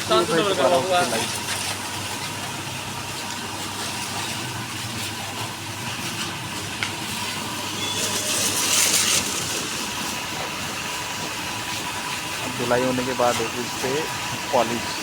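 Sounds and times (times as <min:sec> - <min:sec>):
pressure washer pump hum: 0:00.0 - 0:15.0
water spray hissing: 0:00.0 - 0:15.0.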